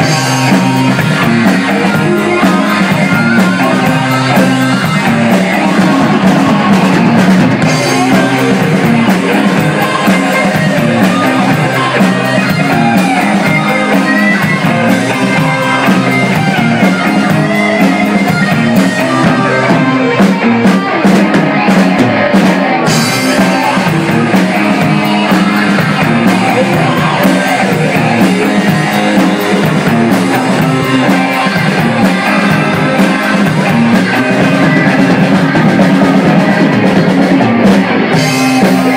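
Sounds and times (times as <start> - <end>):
bass guitar: 0.0 - 38.9
drum kit: 0.0 - 38.9
electric guitar: 0.0 - 38.9
person singing: 0.0 - 38.9.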